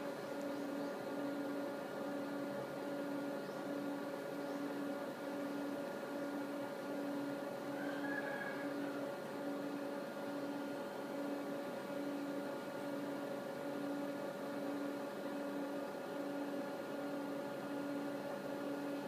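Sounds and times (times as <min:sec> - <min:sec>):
electrical hum and fan noise: 0:00.0 - 0:19.0.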